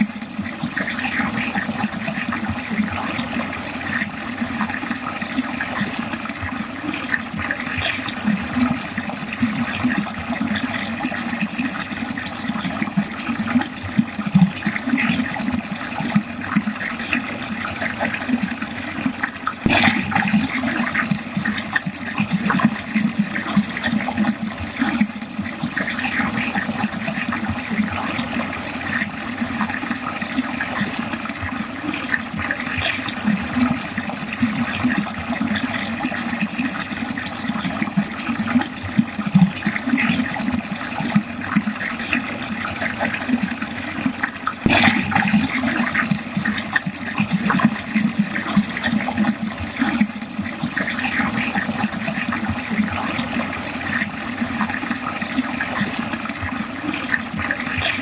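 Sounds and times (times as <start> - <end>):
water gurgling down a drain: 0.0 - 58.0.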